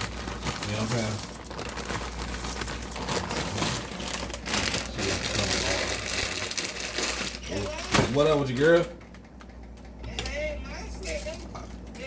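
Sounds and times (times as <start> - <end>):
crinkling and crackling: 0.0 - 10.0.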